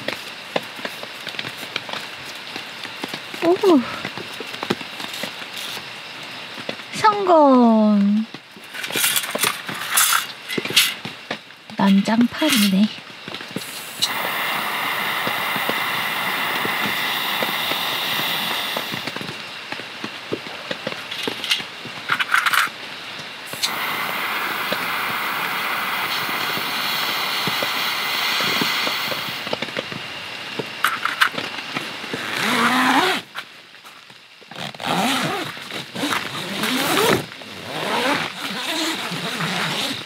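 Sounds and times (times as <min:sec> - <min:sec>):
rain pattering on a tent: 0:00.0 - 0:40.0.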